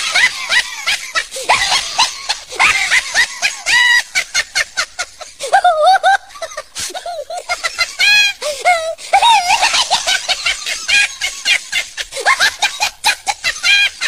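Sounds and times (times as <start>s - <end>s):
high-pitched laughter and shrieking: 0.0s - 14.0s.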